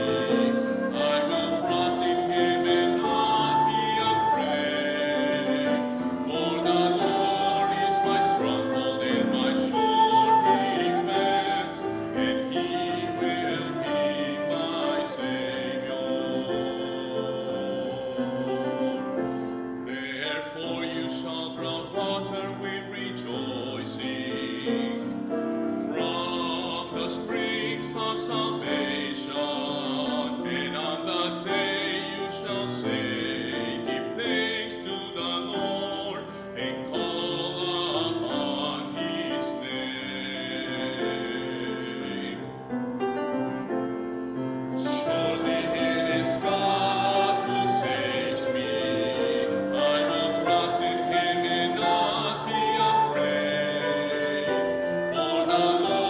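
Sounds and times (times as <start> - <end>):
operatic singing: 0.0 - 42.8, 44.6 - 56.0
piano accompaniment: 0.0 - 56.0.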